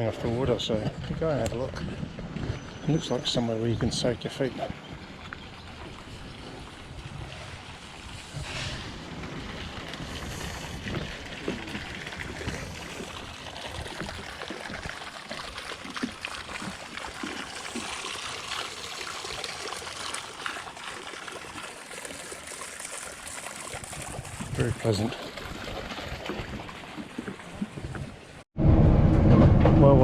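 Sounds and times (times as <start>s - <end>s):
small water splashes: 0.0s - 28.4s
water trickling and running: 0.0s - 28.4s.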